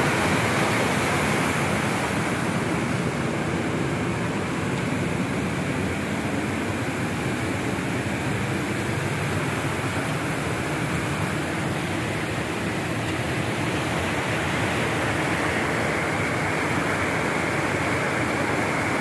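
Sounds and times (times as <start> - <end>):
river water rushing over rapids: 0.0 - 19.0.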